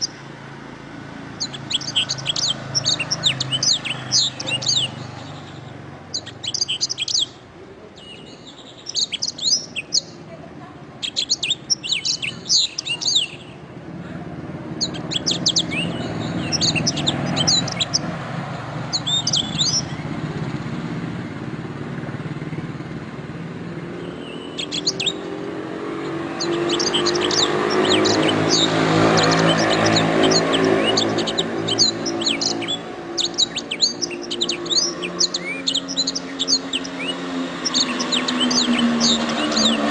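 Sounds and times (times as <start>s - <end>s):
canary singing trills: 0.0s - 13.9s, 14.5s - 20.8s, 22.5s - 39.9s.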